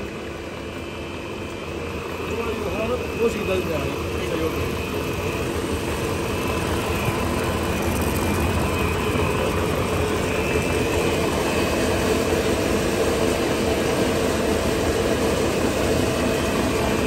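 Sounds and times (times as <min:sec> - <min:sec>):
faint high whine: 0:00.0 - 0:17.0
stretch film machine droning: 0:00.0 - 0:17.0.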